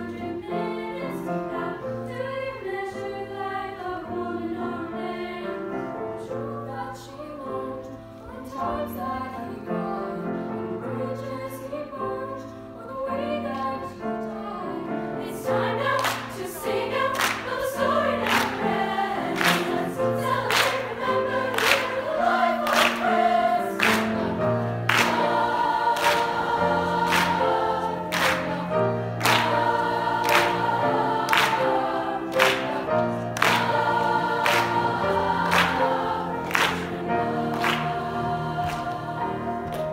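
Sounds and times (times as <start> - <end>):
girls' choir singing: 0.0 - 39.9
piano accompaniment: 0.0 - 39.9.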